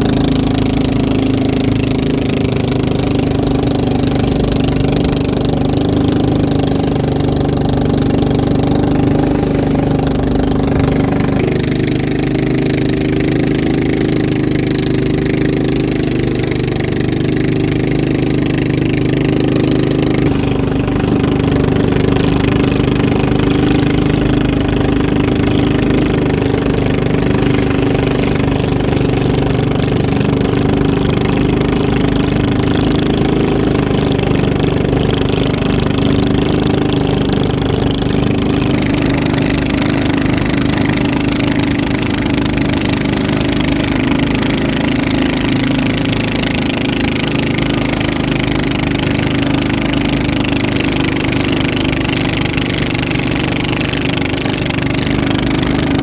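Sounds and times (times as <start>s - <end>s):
motorboat engines running loudly: 0.0s - 56.0s.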